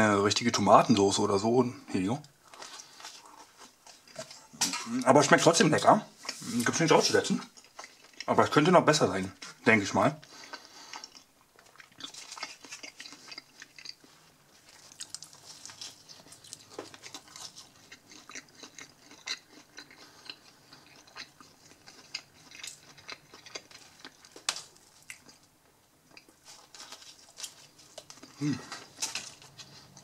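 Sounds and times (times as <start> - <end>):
person chewing pizza: 2.4 - 30.0.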